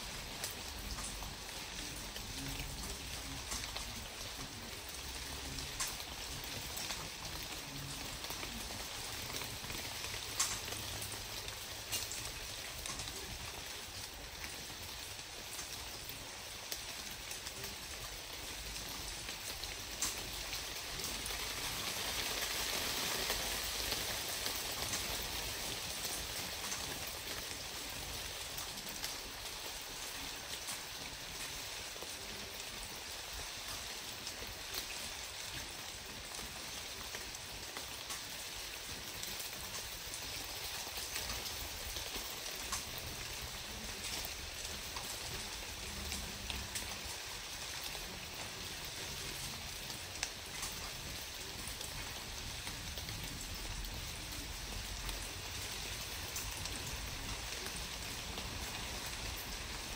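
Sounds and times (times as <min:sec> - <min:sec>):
raindrops ticking on surfaces: 0:00.0 - 0:59.9
steady hiss of rain: 0:00.0 - 0:59.9.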